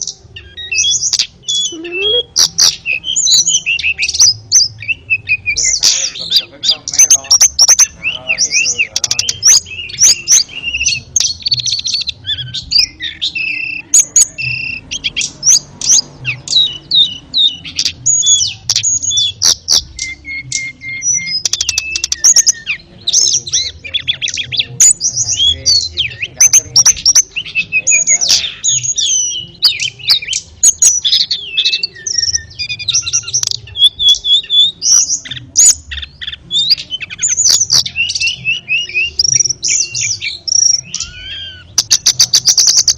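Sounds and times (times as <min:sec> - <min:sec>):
songbird singing chirps and trills: 0:00.0 - 0:42.9.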